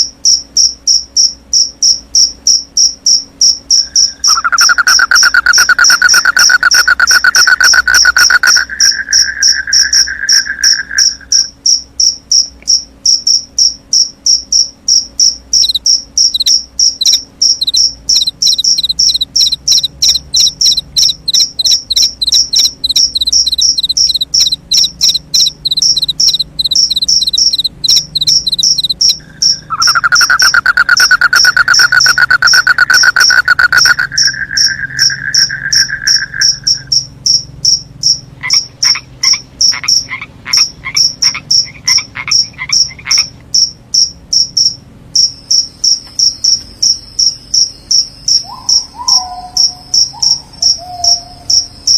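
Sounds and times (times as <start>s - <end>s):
crickets chirping: 0.0s - 51.9s
low-pitched insect trill: 0.0s - 51.9s.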